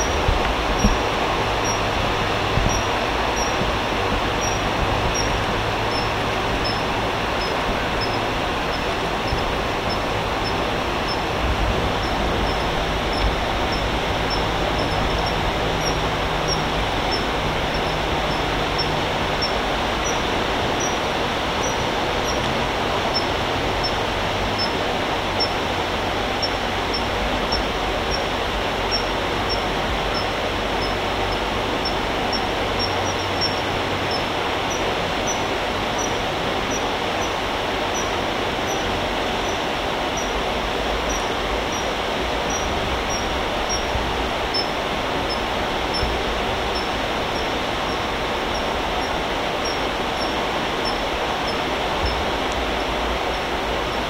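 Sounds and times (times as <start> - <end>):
steady rushing noise: 0.0 - 54.0.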